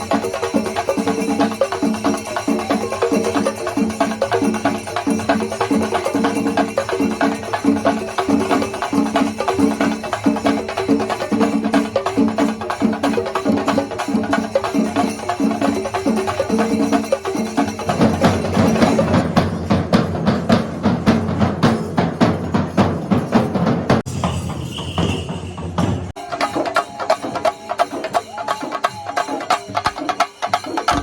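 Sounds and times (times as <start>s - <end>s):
cymbals: 0.0s - 31.0s
drums in fast dense rhythm: 0.0s - 31.0s.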